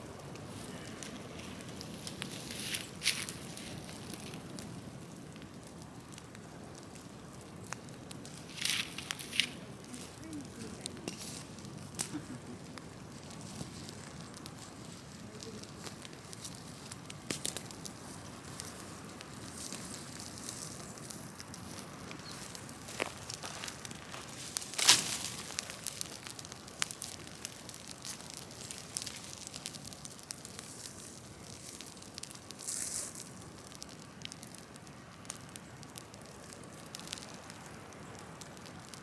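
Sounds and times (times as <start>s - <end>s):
wood fire hissing and crackling: 0.0s - 39.0s.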